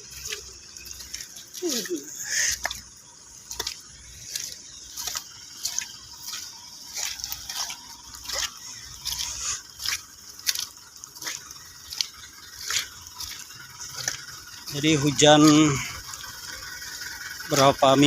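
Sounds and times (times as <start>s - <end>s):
footsteps squelching in mud: 0.0s - 18.0s.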